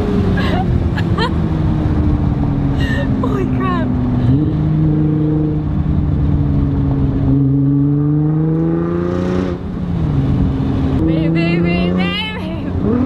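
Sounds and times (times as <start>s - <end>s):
car engine under throttle: 0.0s - 13.0s.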